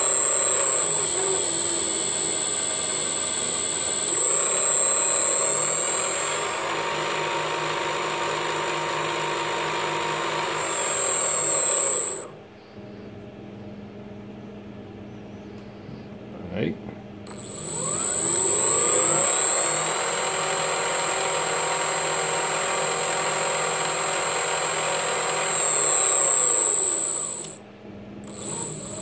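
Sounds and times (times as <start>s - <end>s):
electric motor whining: 0.0s - 12.4s, 17.3s - 27.6s, 28.3s - 29.0s.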